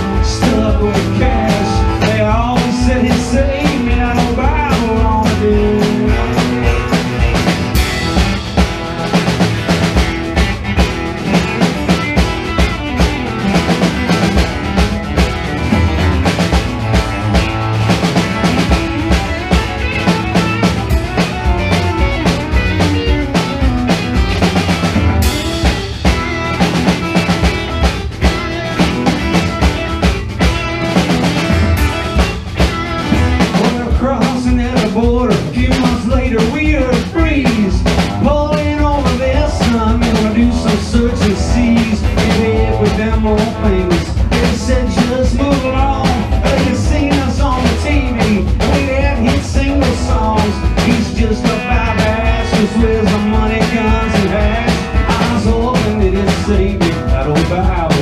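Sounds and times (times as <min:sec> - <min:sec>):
drum kit beat: 0:00.0 - 0:58.0
electric guitar: 0:00.0 - 0:58.0
strummed acoustic guitar: 0:00.0 - 0:58.0.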